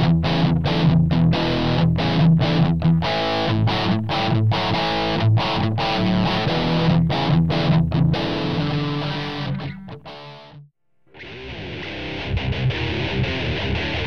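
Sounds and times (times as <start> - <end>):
distorted electric guitar riff: 0.0 - 14.0.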